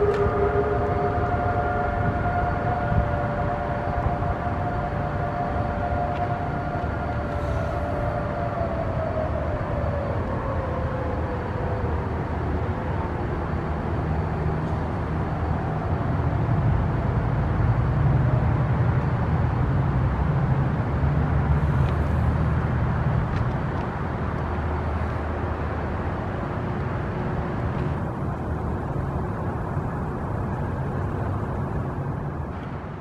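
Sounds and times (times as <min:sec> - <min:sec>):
city traffic: 0:00.0 - 0:33.0
heavy vehicle engine rumbling: 0:00.0 - 0:33.0.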